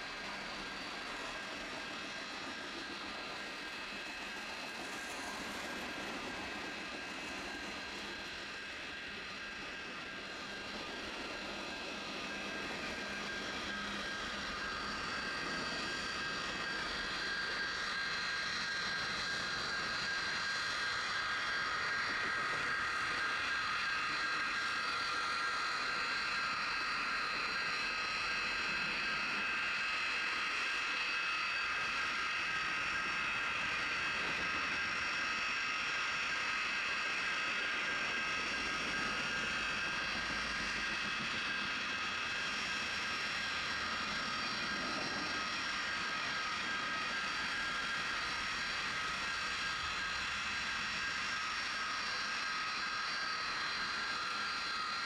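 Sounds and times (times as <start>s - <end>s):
jet-engine snowblower whine: 0.0s - 55.0s.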